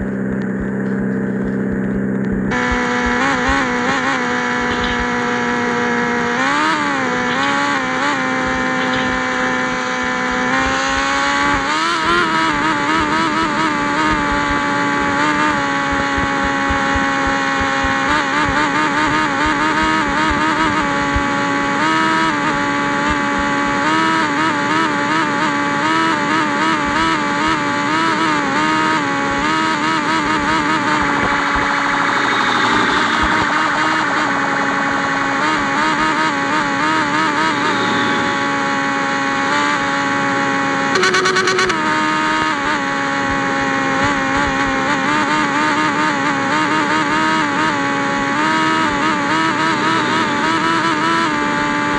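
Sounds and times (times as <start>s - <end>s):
motorcycle engine running loudly: 0.0s - 51.9s.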